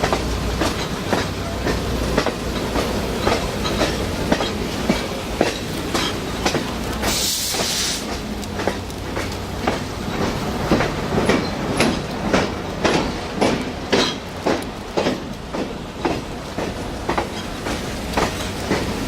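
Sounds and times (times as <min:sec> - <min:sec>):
train rumbling: 0:00.0 - 0:19.0
train wheels clicking over rail joints: 0:00.0 - 0:19.0.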